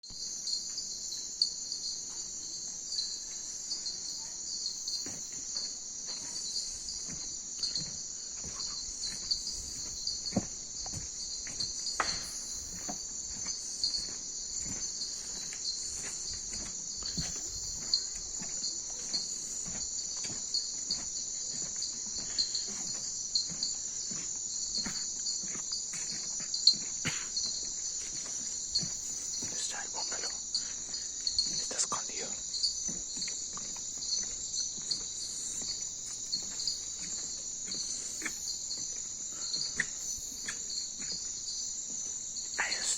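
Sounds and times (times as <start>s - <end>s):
night insects trilling: 0.0s - 42.9s.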